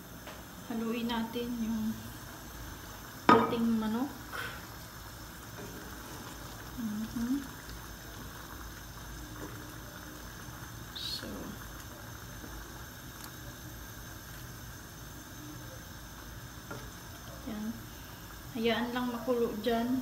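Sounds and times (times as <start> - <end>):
bubbling simmering hiss: 0.0 - 20.0.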